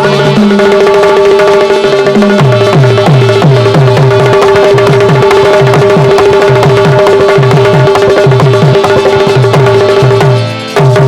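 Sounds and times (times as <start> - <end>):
hand drum bass strokes: 0.0 - 11.0
steady held tone: 0.0 - 11.0.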